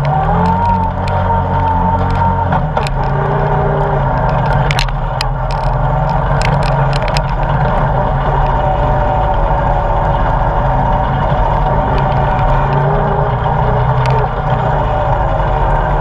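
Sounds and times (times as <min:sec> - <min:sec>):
atv engine running: 0:00.0 - 0:16.0
stones clicking and knocking: 0:00.0 - 0:16.0.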